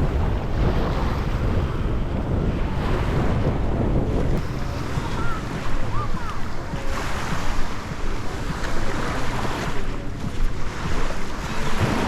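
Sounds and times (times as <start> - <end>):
waves washing onto beach: 0.0 - 12.0
wind buffeting microphone: 0.0 - 12.0.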